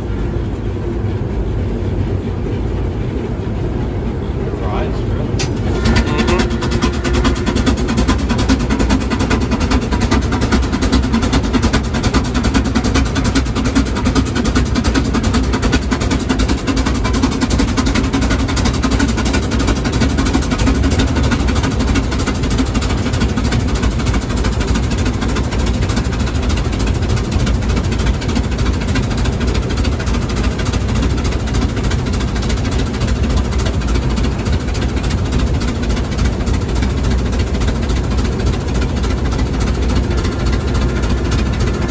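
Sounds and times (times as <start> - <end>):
steam engine rumbling: 0.0 - 41.9.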